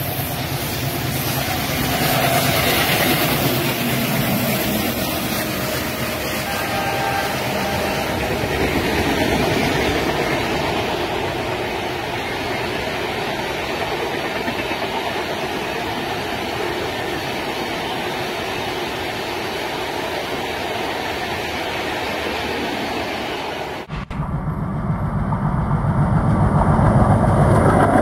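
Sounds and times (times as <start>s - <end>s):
train rumbling along rails: 0.0s - 28.0s.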